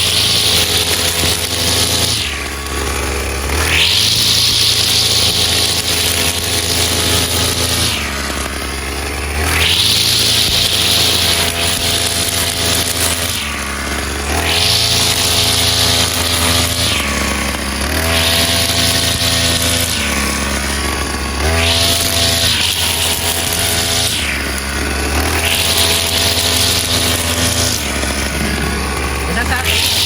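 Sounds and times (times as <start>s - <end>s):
brush cutter engine revving: 0.0s - 30.0s.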